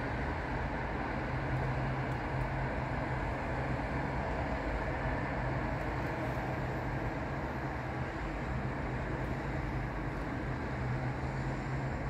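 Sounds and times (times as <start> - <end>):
constant low hum: 0.0 - 12.0
tyres hissing on wet road: 0.1 - 12.0.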